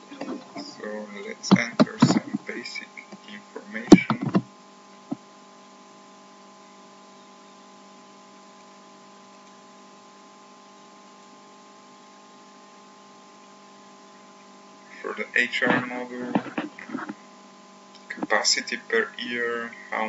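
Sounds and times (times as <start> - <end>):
faint hiss: 0.0 - 9.3, 9.9 - 20.0
electrical hum: 0.0 - 20.0.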